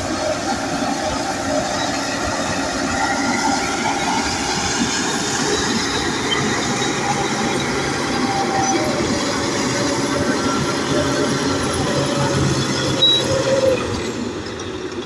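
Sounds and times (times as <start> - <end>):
bulldozer diesel engine: 0.0 - 15.0
steel tracks clanking: 0.0 - 15.0.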